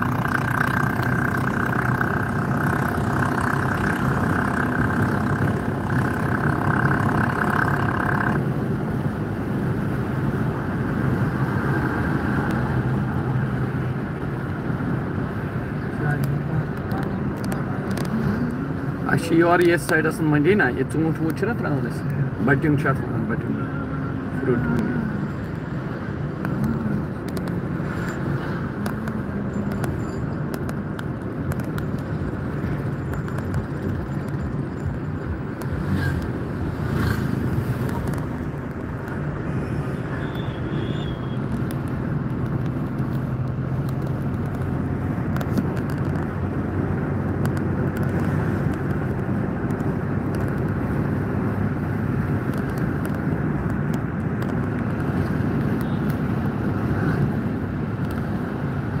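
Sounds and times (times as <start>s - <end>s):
car engine hum: 0.0s - 59.0s
tyre and road noise: 0.0s - 59.0s.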